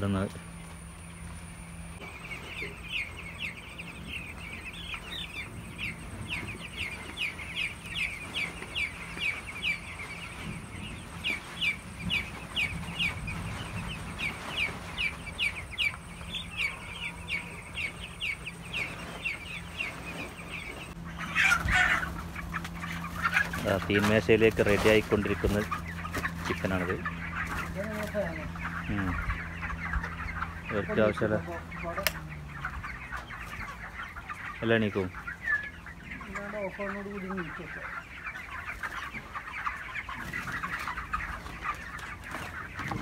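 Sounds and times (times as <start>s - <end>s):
chicks peeping: 0.0s - 43.0s
louder chicken calls: 0.0s - 43.0s
low steady hum: 0.0s - 43.0s.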